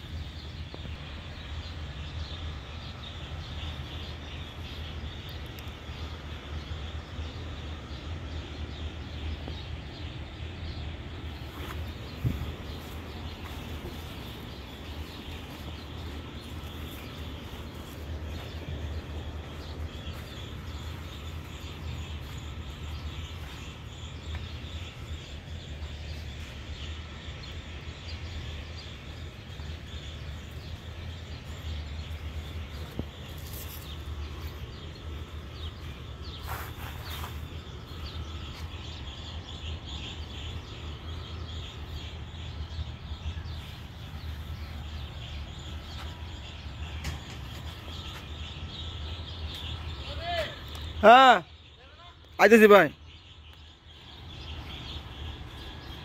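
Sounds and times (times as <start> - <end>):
steady low rumble: 0.0 - 50.0
small bird chirps: 0.0 - 56.0.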